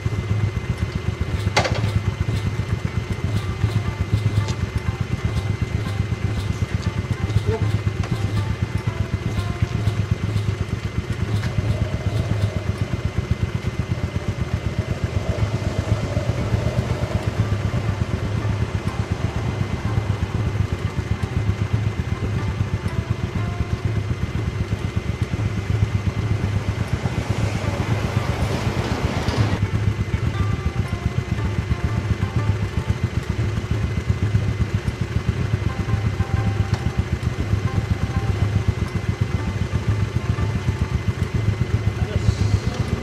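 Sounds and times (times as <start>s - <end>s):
motorcycle engine idling: 0.0s - 43.0s.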